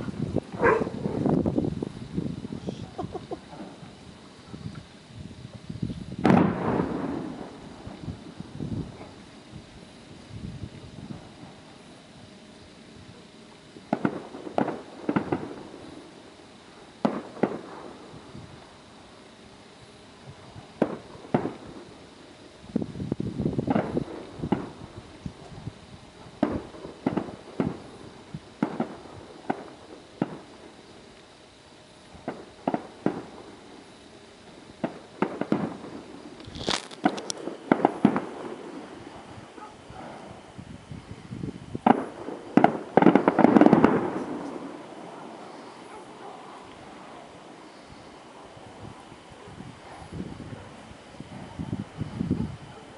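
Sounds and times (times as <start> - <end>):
distant fireworks bursting: 0.0 - 40.9, 41.6 - 52.0.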